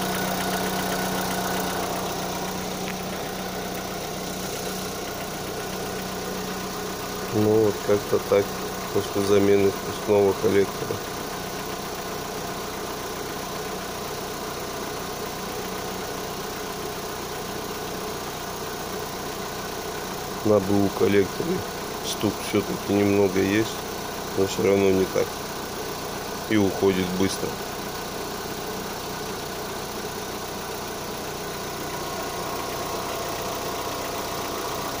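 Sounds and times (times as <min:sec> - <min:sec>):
car engine idling: 0:00.0 - 0:35.0
engine knocking: 0:00.0 - 0:35.0.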